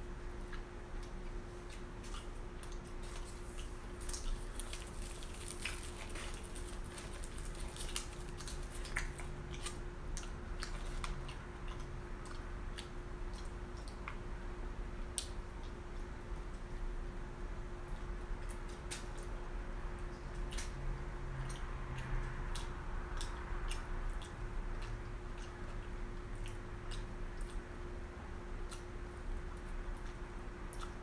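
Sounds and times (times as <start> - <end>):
faint steady hum: 0.0 - 31.0
chewing and eating: 0.2 - 31.0.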